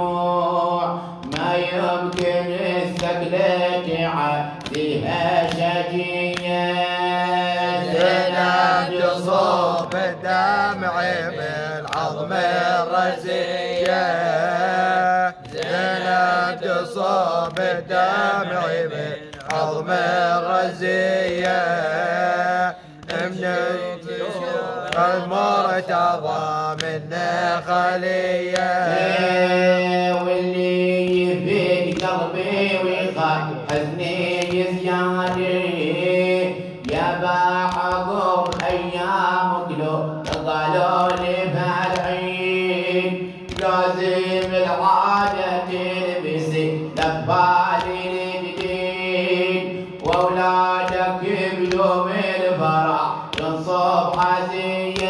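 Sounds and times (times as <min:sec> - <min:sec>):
person chanting an elegy: 0:00.0 - 0:55.0.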